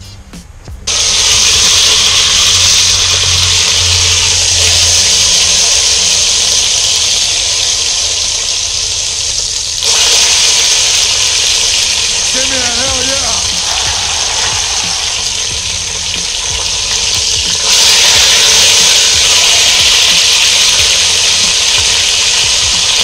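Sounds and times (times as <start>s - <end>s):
meat searing loud sizzle: 0.9s - 23.0s.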